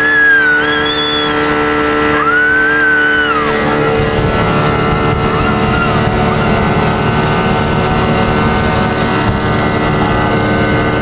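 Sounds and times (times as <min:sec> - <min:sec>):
high wavering tone: 0:00.0 - 0:10.9
outboard motor running: 0:00.0 - 0:11.0
rush of boat wake: 0:00.0 - 0:11.0.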